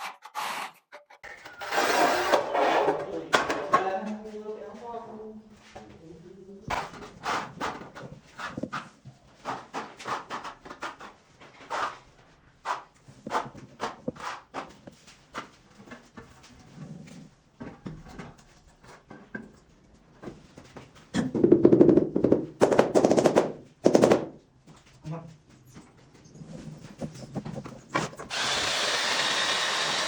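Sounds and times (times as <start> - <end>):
tools and tiles knocking and scraping: 0.0 - 4.2, 6.7 - 12.0, 12.6 - 25.0, 25.6 - 30.0.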